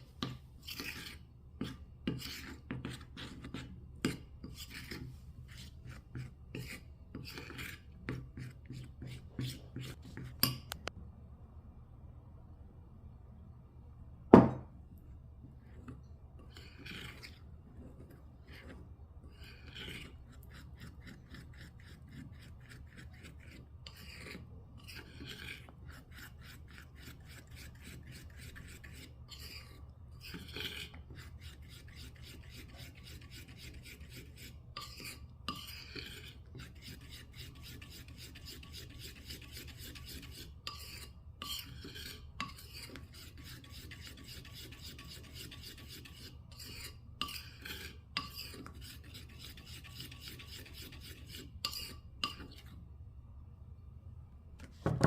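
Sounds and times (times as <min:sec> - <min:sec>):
kitchen utensil rasping in bowl: 0:00.6 - 0:10.8, 0:15.8 - 0:52.7.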